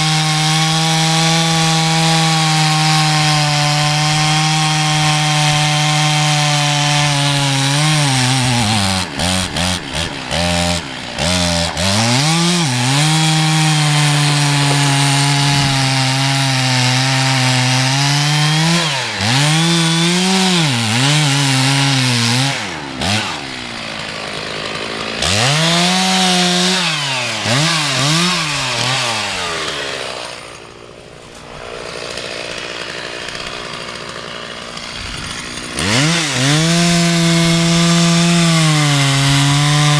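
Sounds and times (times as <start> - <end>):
chainsaw cutting tree: 0.0 - 39.9.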